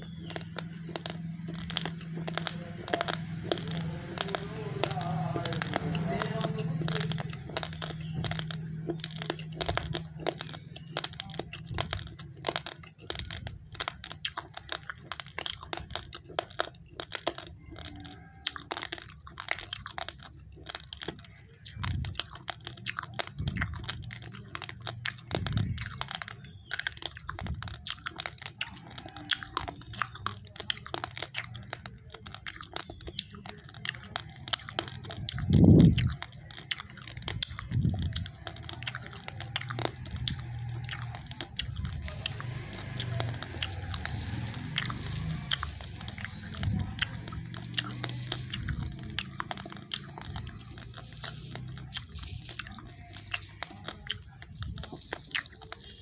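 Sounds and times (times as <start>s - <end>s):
rice grains being chewed: 0.0s - 56.0s.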